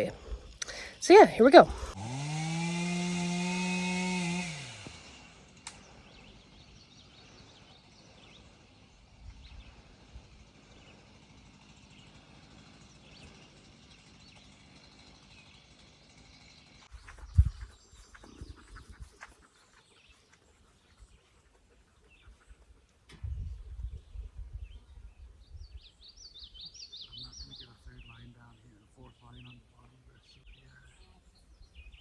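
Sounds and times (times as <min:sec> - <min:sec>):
faint birdsong: 0:04.8 - 0:32.0.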